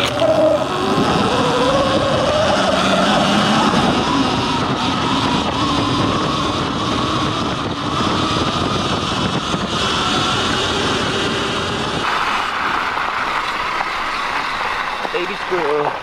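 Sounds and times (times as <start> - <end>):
electric motor and chain whine: 0.0 - 16.0
tyres rushing on dirt trail: 0.0 - 16.0.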